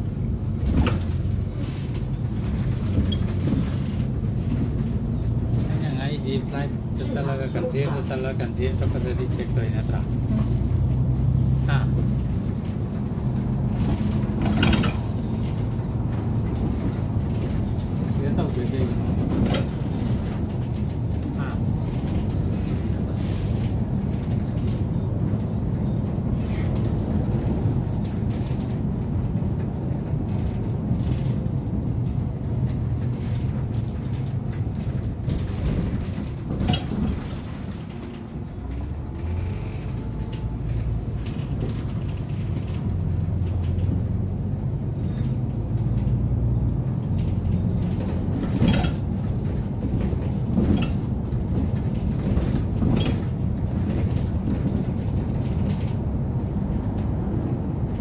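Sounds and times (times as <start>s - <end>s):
bus body rattling: 0.0s - 58.0s
bus engine hum: 0.0s - 58.0s.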